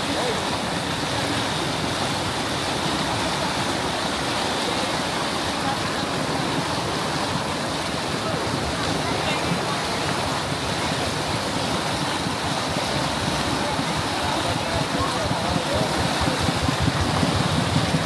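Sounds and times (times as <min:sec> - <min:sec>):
flowing water rushing: 0:00.0 - 0:18.0.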